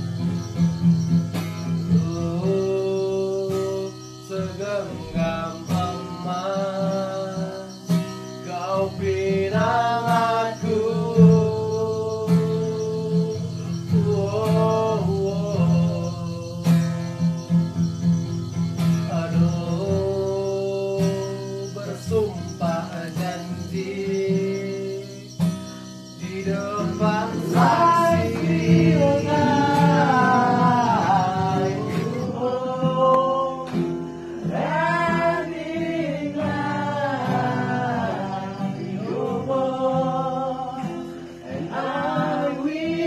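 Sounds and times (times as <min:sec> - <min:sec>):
acoustic guitar strumming: 0:00.0 - 0:43.0
voices singing: 0:00.0 - 0:43.0.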